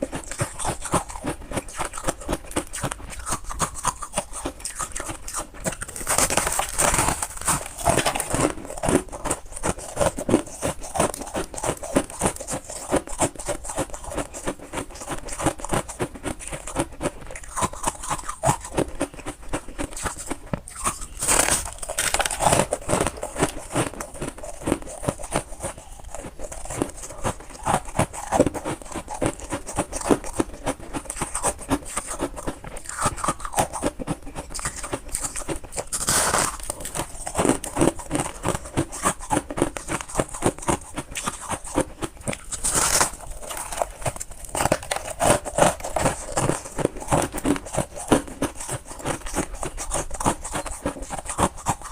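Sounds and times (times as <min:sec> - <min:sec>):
crunching and chewing ice: 0:00.0 - 0:51.9.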